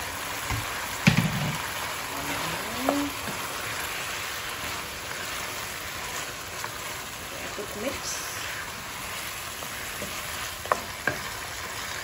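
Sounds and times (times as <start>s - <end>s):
curry simmering and sizzling: 0.0s - 12.0s.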